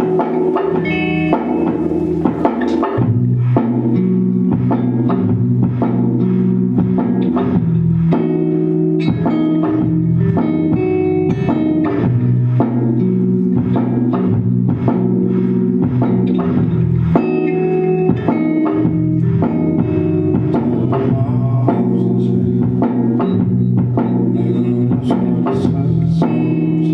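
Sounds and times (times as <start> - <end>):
bass: 0.0 - 26.9
guitars: 0.0 - 26.9
live band instrumental: 0.0 - 26.9
steady drum beat: 0.0 - 26.9.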